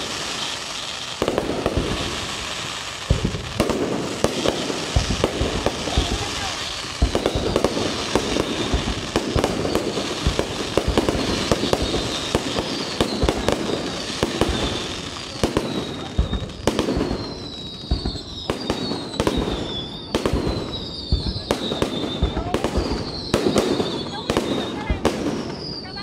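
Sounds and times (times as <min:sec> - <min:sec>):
falling firework whistles: 0:00.0 - 0:26.0
fireworks bangs and crackling: 0:00.0 - 0:26.0.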